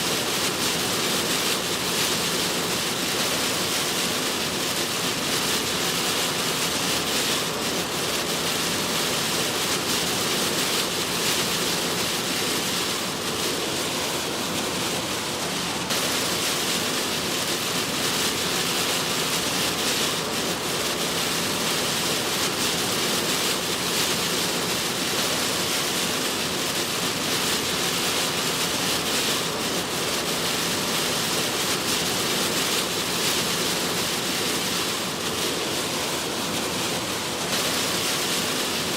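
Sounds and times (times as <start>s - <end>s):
heavy rain on a car: 0.0s - 38.9s
tyres hissing on a flooded road: 0.0s - 38.9s.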